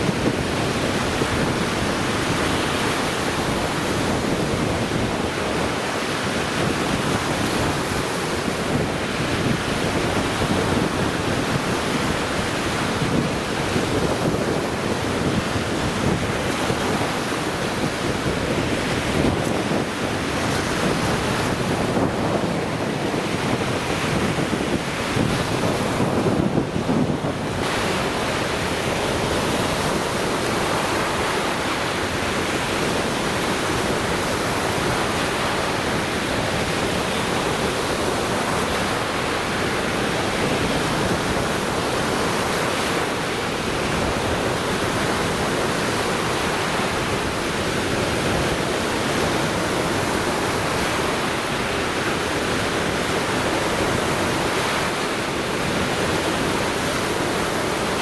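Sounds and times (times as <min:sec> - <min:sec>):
surf breaking on beach: 0:00.0 - 0:58.0
wind on microphone: 0:00.0 - 0:58.0.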